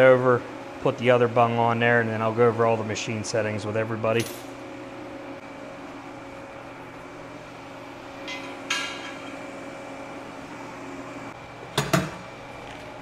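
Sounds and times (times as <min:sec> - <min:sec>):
steady shop hum: 0:00.0 - 0:13.0.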